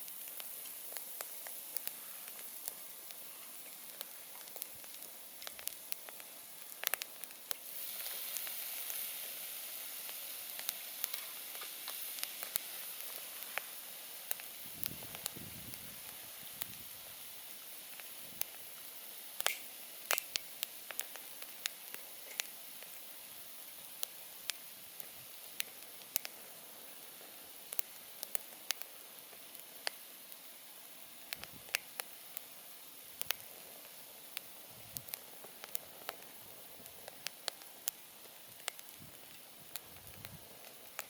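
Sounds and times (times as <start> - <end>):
campfire crackling and hissing: 0.0 - 41.0.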